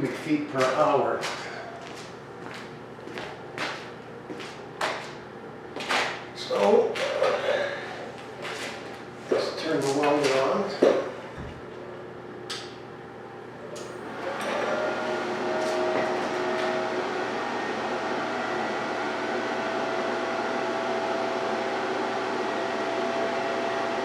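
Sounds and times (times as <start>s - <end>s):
welder cooling fan whirring: 0.0s - 24.0s.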